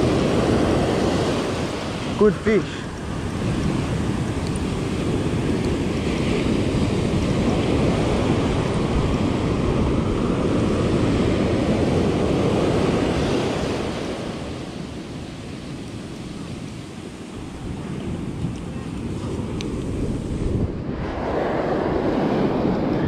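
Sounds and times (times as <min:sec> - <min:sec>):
sea water washing: 0:00.0 - 0:23.0
wind buffeting microphone: 0:00.0 - 0:23.0.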